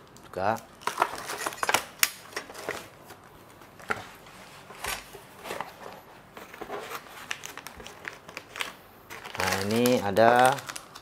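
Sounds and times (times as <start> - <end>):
packaging and parts clicking: 0.0 - 2.9, 4.8 - 11.0.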